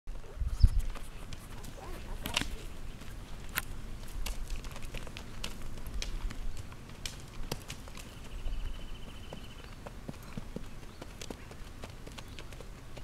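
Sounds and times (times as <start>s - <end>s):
horse hooves on gravel: 0.1s - 13.0s.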